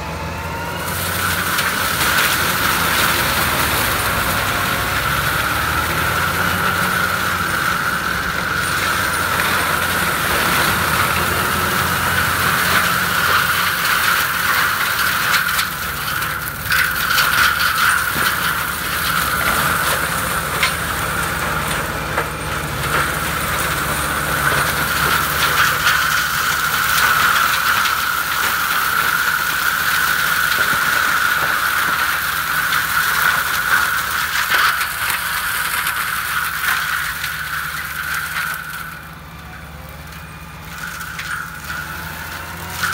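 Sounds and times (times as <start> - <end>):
mulcher whine: 0.0 - 42.9
tractor diesel engine: 0.0 - 42.9.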